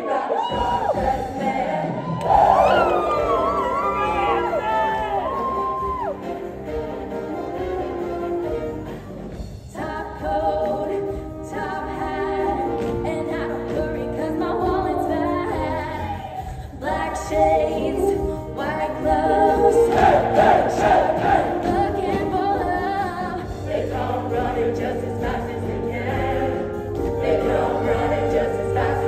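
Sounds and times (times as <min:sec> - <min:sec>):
large chorus singing: 0:00.0 - 0:29.0.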